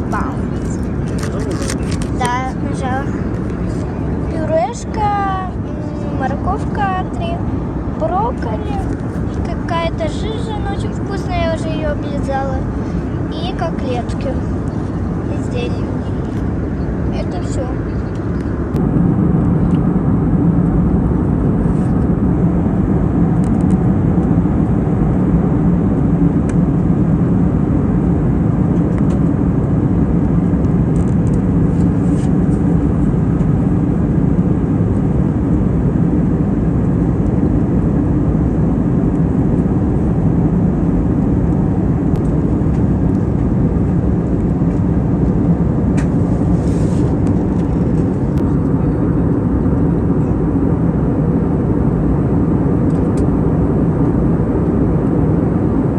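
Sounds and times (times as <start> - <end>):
airliner cabin noise: 0.0 - 55.9.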